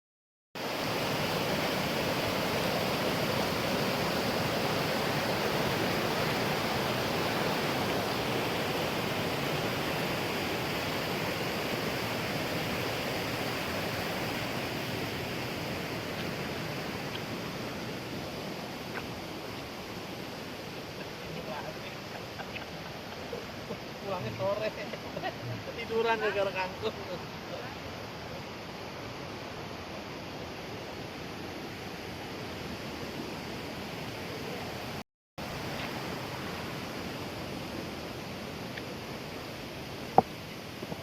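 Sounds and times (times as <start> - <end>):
water flowing: 0.6 - 41.0.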